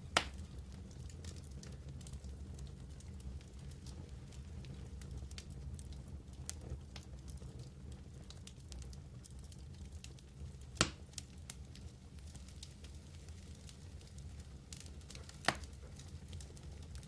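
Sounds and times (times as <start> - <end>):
fire crackling and snapping: 0.0 - 17.0
fire rumbling: 0.0 - 17.0.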